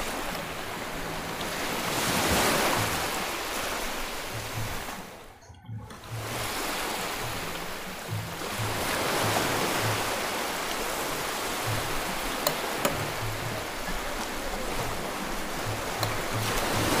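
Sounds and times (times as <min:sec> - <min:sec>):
faint music with low beat: 0:00.0 - 0:17.0
rushing background noise: 0:00.0 - 0:17.0.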